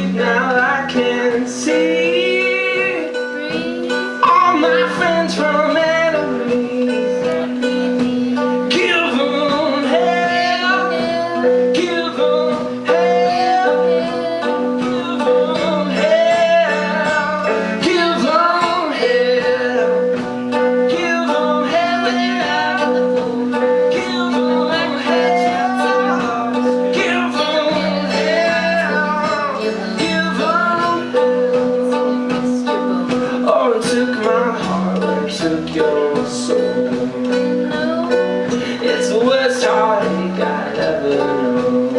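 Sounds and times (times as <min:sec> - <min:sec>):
guitar playing: 0:00.0 - 0:41.9
person singing: 0:00.0 - 0:41.9.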